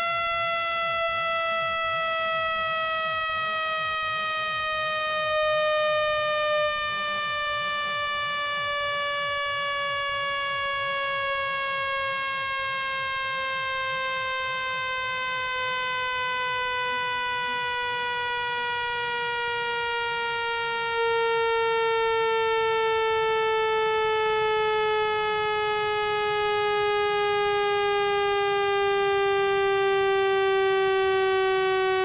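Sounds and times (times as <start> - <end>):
buzzy electronic tone gliding down: 0.0 - 32.0.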